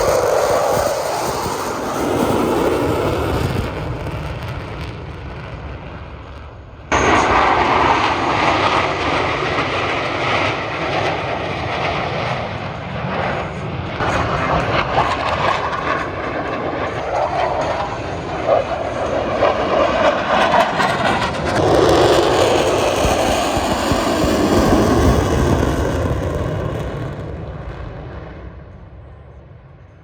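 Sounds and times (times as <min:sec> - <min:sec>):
aircraft engine noise: 0:00.0 - 0:30.0.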